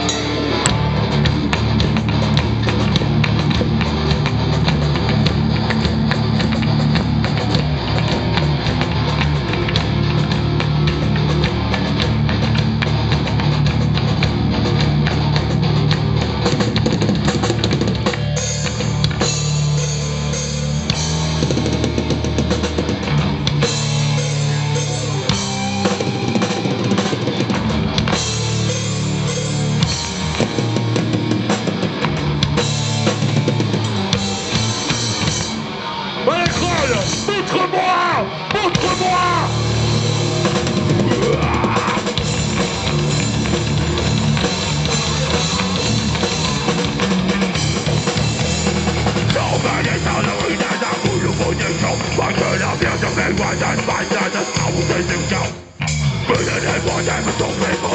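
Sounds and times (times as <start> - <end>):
distorted electric guitars: 0.0 - 57.9
fast heavy drum kit: 0.0 - 57.9.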